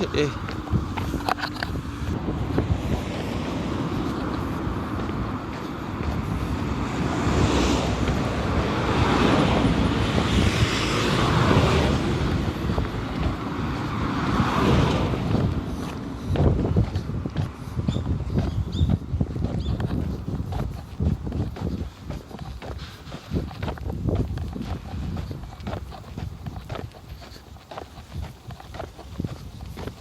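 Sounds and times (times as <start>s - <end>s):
cars passing: 0.0s - 30.0s
low traffic rumble: 0.0s - 30.0s
wind buffeting microphone: 0.0s - 30.0s.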